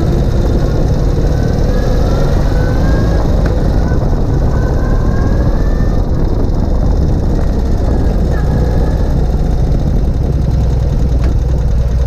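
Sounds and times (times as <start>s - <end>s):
faint whine gliding in pitch: 0.0s - 11.4s
motorcycle engine rumble: 0.0s - 12.0s
road and wind noise: 0.0s - 12.0s.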